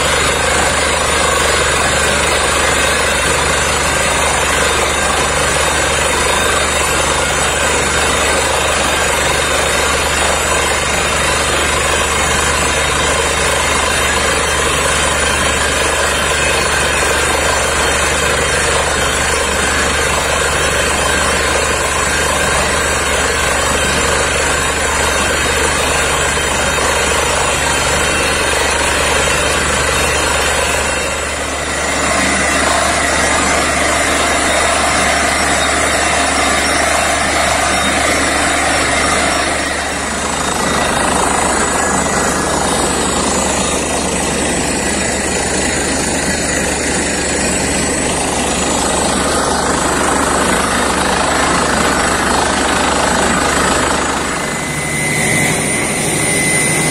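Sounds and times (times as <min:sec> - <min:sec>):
drilling rig engine drone: 0:00.0 - 0:56.9.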